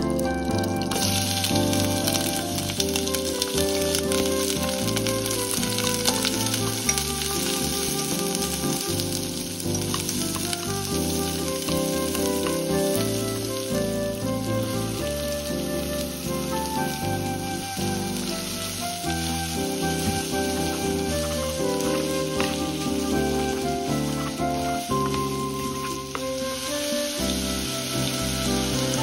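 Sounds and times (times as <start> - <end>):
background music with held notes: 0.0 - 29.0
onions sizzling in fat: 0.0 - 29.0
chopsticks stirring in a pot: 0.6 - 15.7, 18.2 - 27.4.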